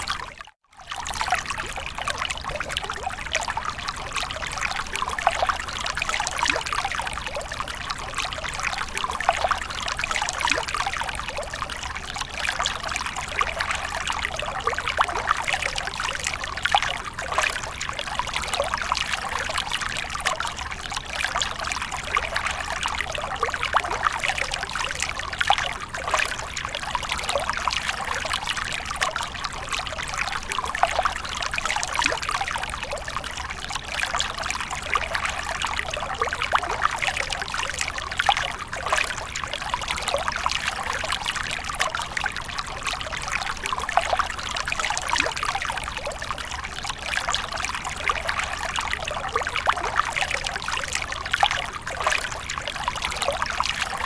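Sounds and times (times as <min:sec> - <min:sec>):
water splashing and trickling: 0:00.0 - 0:54.0.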